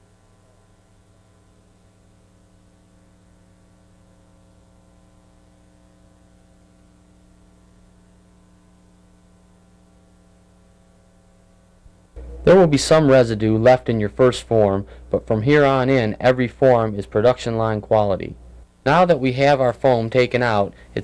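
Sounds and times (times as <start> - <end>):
electrical mains hum: 0.0 - 21.0
faint hiss: 0.0 - 21.0.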